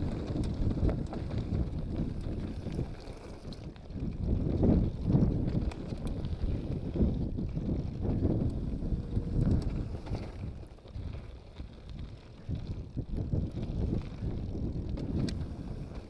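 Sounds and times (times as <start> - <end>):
bike clicks: 0.0 - 16.0
bike rumbling on rocky trail: 0.0 - 16.0
wind buffeting microphone: 0.0 - 16.0.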